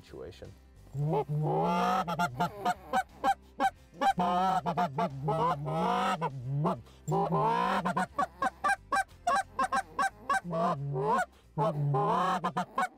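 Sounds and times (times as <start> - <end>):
goose call clucks: 1.0 - 12.9
goose call honks: 1.0 - 12.9.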